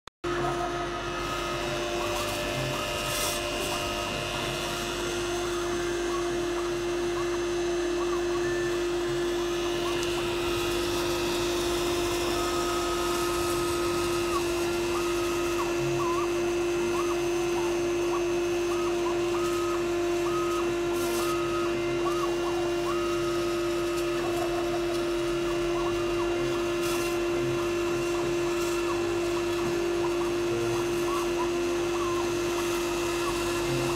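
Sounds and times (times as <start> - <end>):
router spindle humming: 0.2 - 33.9
stepper motors whining: 0.3 - 33.9.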